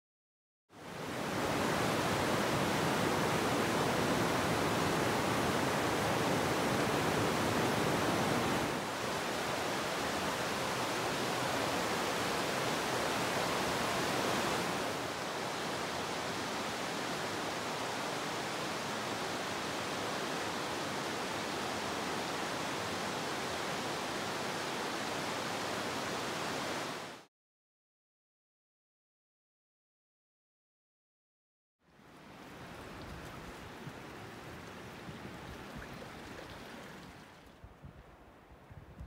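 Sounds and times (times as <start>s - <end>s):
creek rushing: 0.8s - 27.3s, 31.9s - 38.4s.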